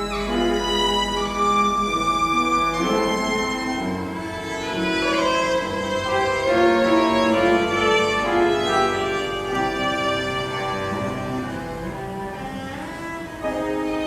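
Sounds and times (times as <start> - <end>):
classical piano trio: 0.0 - 14.0.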